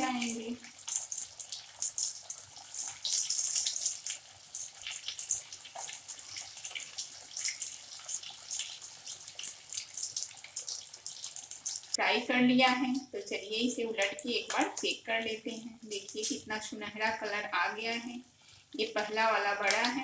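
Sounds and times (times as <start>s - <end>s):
patties deep-frying in oil: 0.0s - 20.0s.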